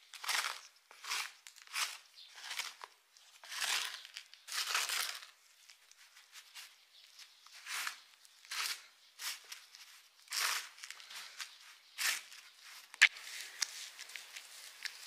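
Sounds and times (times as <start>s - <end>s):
hands scrunching gritty soil: 0.0s - 15.0s.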